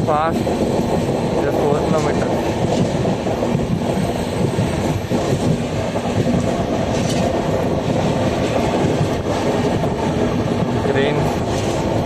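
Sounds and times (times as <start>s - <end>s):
train running at speed: 0.0s - 12.0s.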